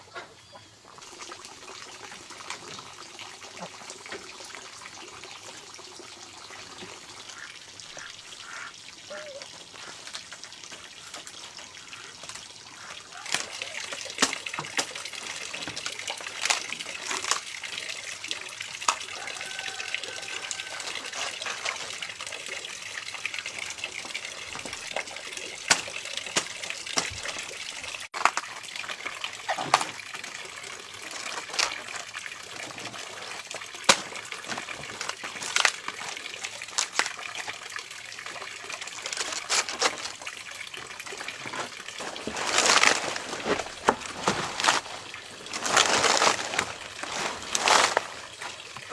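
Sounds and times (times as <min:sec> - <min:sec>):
water running and splashing: 0:00.8 - 0:48.9.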